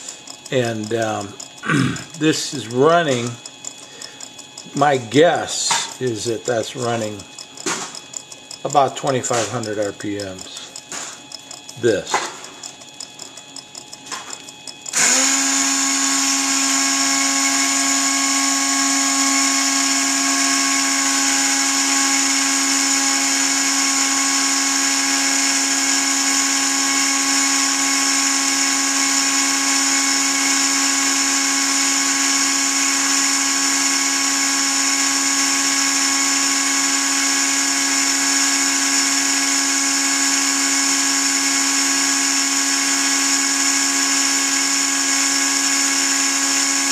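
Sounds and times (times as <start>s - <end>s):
rotary tool high-pitched whine: 0.0s - 46.9s.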